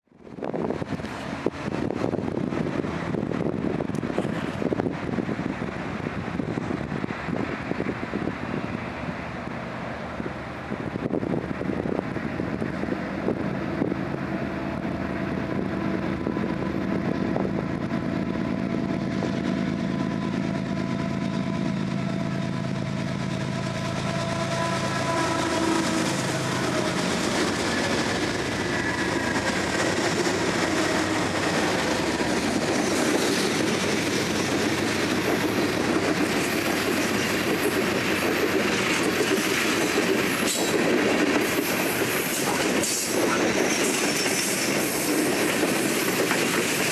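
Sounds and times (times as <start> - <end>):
locomotive drone: 0.2 - 46.9
rail cars rolling: 0.2 - 46.9.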